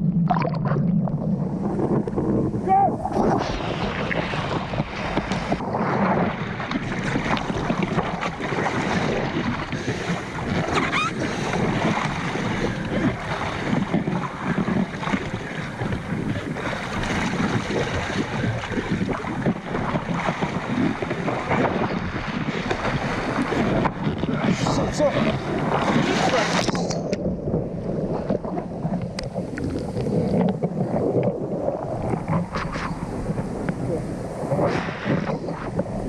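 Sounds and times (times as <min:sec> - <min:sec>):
water rushing past board: 0:00.0 - 0:36.0
wind buffeting microphone: 0:01.1 - 0:36.0.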